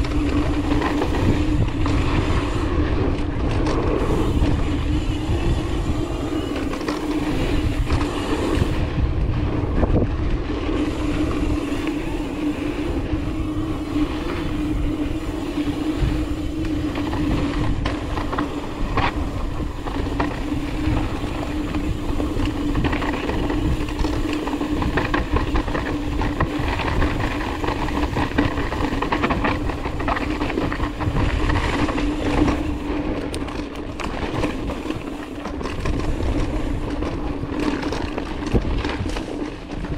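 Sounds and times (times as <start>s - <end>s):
bicycle wheels humming: 0.0s - 39.9s
bike clicks and rattles: 0.0s - 39.9s
wind rumble on microphone: 0.0s - 39.9s.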